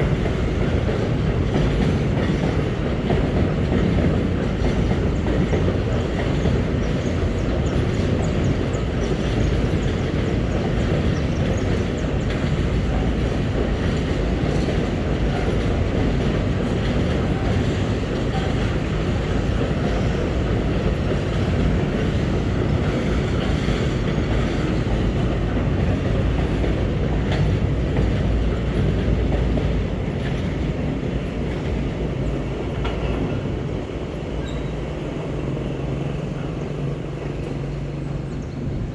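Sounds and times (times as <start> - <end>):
clickety-clack over rail joints: 0.0 - 38.9
freight wagons rumbling on rails: 0.0 - 38.9.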